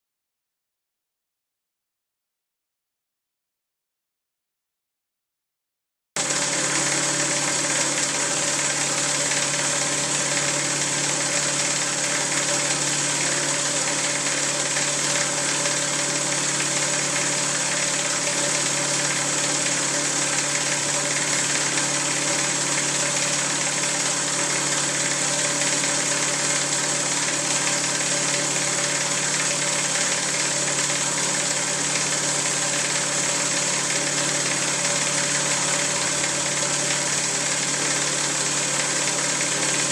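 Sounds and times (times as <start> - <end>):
vacuum pump running: 6.2 - 39.9.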